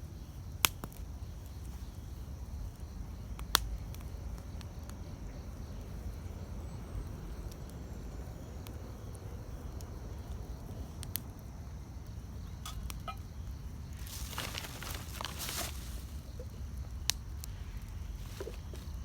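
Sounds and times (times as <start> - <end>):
campfire crackling and popping: 0.1 - 19.0.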